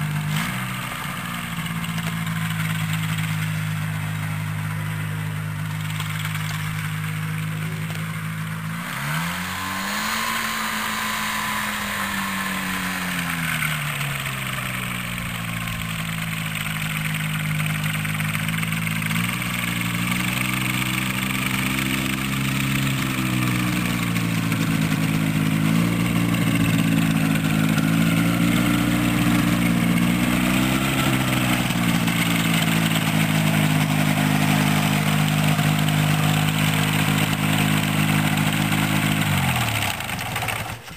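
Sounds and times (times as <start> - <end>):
engine and propeller running: 0.0 - 40.9.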